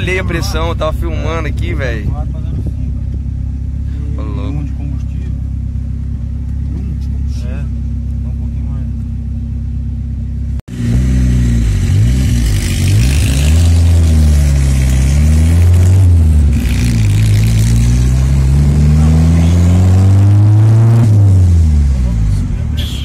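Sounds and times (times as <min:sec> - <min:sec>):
car engine pulling through gears: 0:00.0 - 0:22.7.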